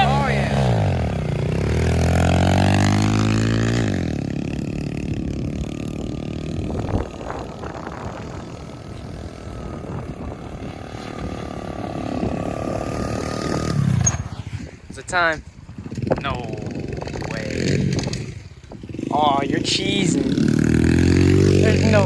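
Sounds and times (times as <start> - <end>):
pit bike engine revving: 0.0 - 22.0.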